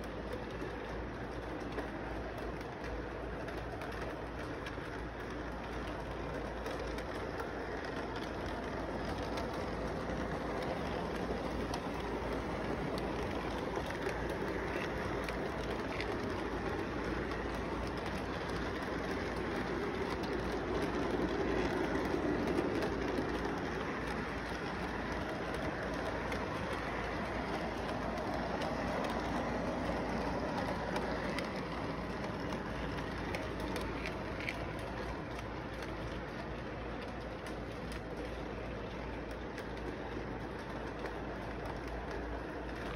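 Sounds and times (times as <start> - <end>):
model train rolling on track: 0.0 - 42.9.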